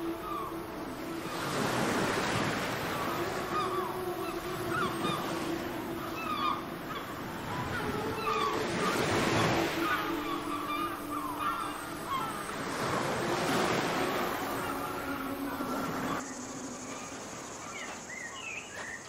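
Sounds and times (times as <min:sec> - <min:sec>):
gulls calling: 0:00.0 - 0:19.0.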